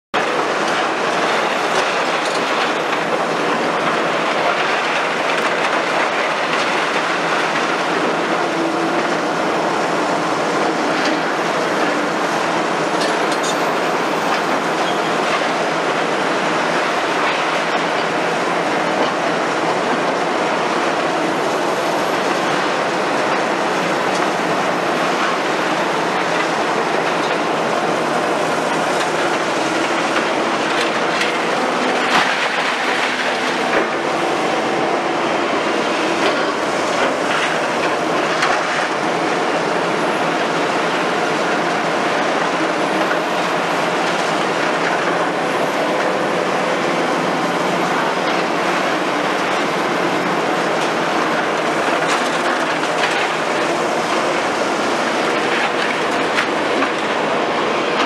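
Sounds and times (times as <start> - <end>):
diesel engine under load: 0.2 - 58.0.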